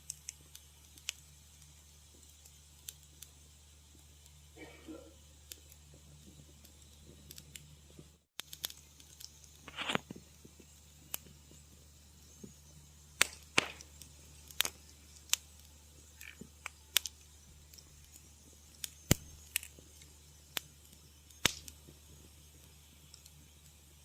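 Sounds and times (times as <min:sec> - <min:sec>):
low steady hum: 0:00.0 - 0:24.0
wood fire crackling: 0:00.0 - 0:24.0.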